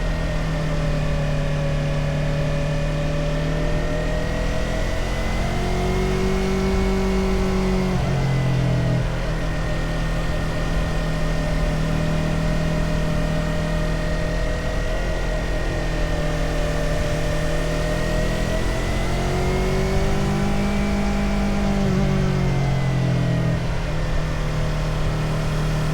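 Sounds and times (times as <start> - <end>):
motorcycle engine at speed: 0.0 - 25.9.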